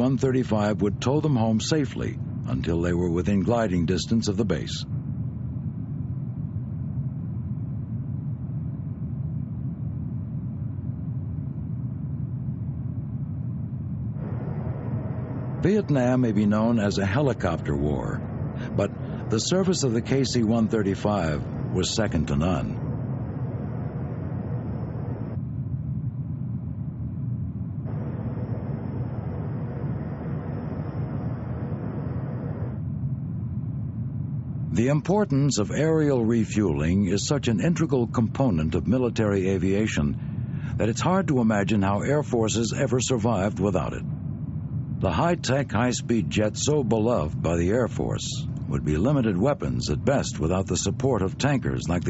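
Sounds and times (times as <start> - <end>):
jet engines rumbling in flight: 0.0 - 52.0.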